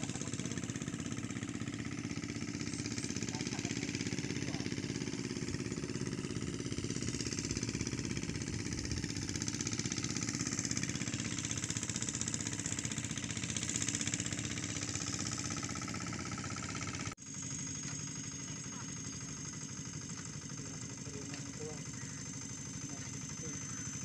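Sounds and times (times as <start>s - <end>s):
hand tractor engine running: 0.0s - 24.0s.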